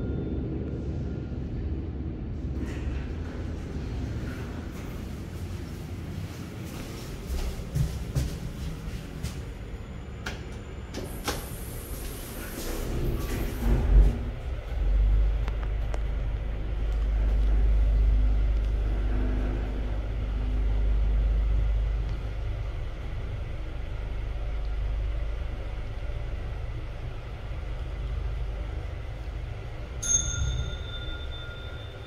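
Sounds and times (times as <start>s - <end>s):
lift low rumble: 0.0s - 32.0s.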